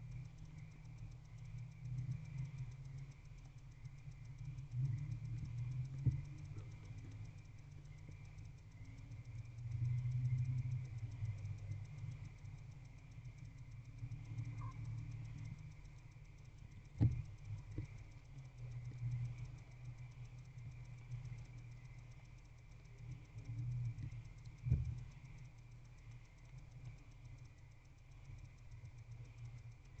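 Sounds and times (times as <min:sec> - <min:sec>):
faint high hum: 0:00.0 - 0:30.0
low steady rumble: 0:00.0 - 0:30.0.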